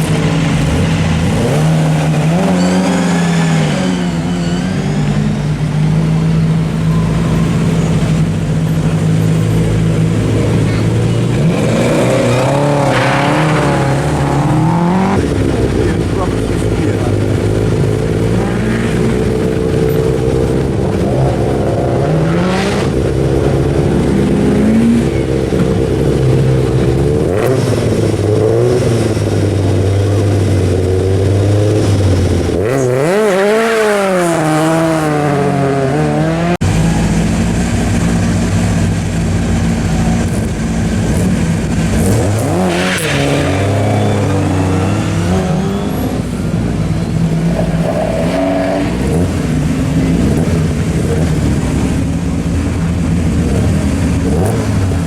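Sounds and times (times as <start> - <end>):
car revving sharply: 0.0 - 55.0
rally car engines running hard: 0.0 - 55.0.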